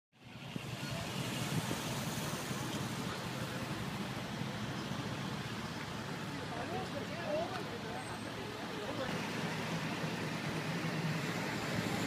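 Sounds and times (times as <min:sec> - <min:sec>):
car engines rumbling: 0:00.2 - 0:12.0.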